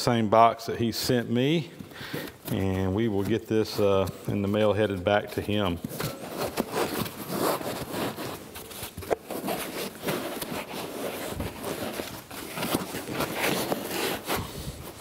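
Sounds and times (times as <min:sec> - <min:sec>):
foam blocks rubbing and squeaking: 0:00.0 - 0:15.0
scuffs and small knocks: 0:00.9 - 0:15.0.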